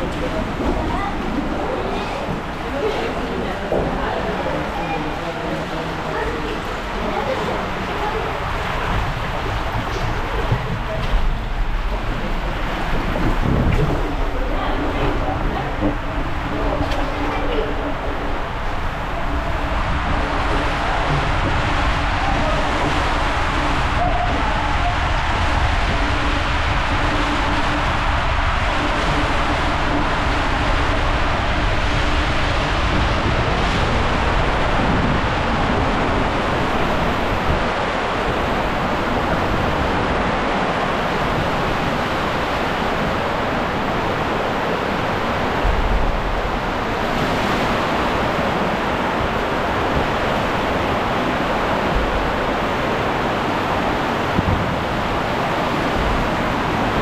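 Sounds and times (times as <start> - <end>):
water rushing down a slide: 0.0 - 57.0.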